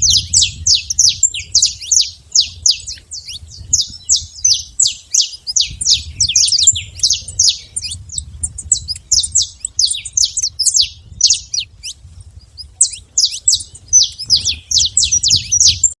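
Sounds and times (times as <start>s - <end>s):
finch singing: 0.0s - 16.0s.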